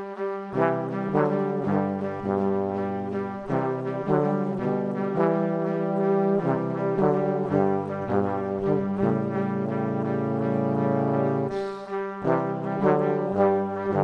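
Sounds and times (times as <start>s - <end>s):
brass instruments playing chords: 0.0s - 14.0s.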